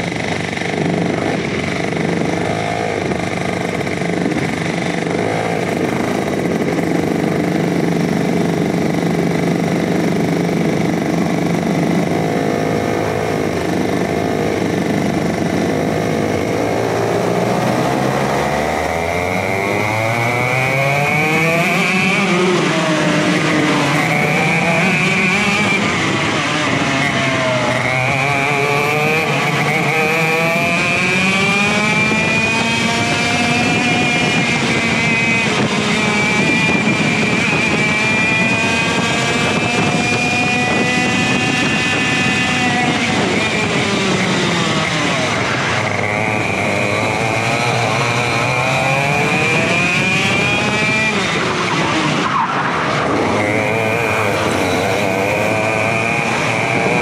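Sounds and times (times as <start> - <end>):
kart engines revving: 0.0 - 57.0.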